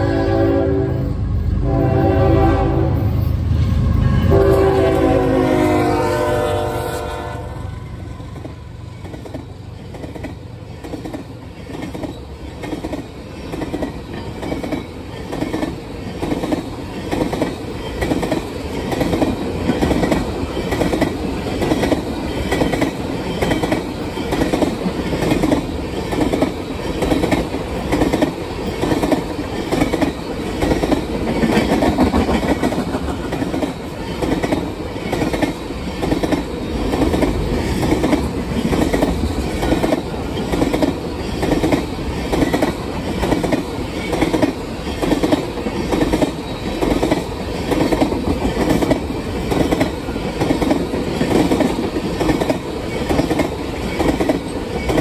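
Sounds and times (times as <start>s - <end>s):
steady train rumble: 0.0s - 55.0s
train wheels clicking on rail joints: 8.2s - 55.0s.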